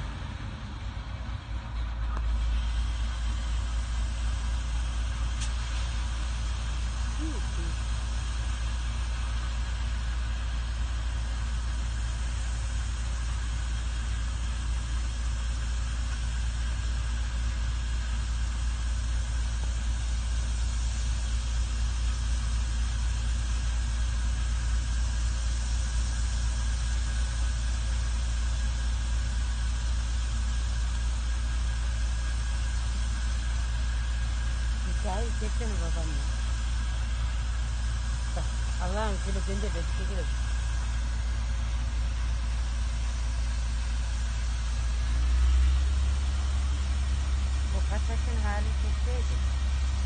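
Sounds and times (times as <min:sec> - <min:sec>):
faint high whine: 0:00.0 - 0:50.0
harvester and tractor engines droning: 0:00.0 - 0:50.0.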